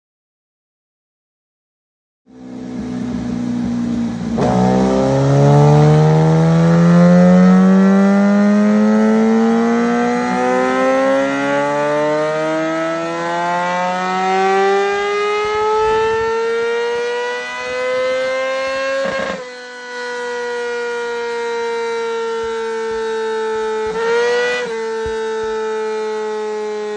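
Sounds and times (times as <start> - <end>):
motorcycle engine revving: 2.3 - 26.9.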